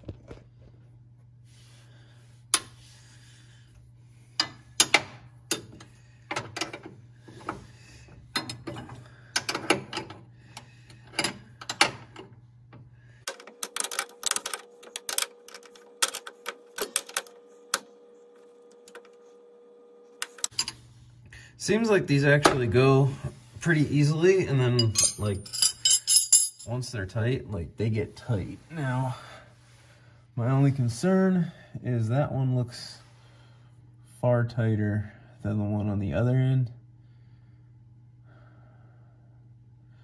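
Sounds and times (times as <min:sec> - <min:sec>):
background hum: 0:00.0 - 0:40.0.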